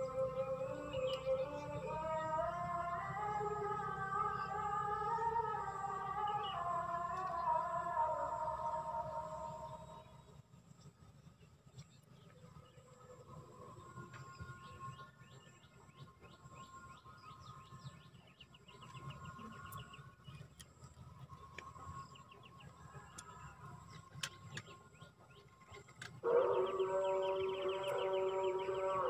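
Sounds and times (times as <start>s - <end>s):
birds chirping: 0.0s - 29.0s
outdoor background noise: 0.0s - 29.0s.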